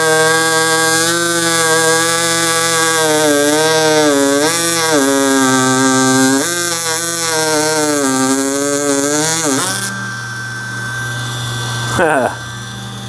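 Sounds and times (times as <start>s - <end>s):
power carver buzzing: 0.0s - 13.0s.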